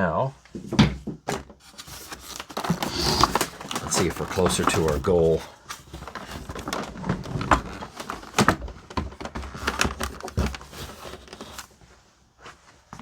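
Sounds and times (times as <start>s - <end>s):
plastic parts clicking and knocking: 0.6s - 11.7s.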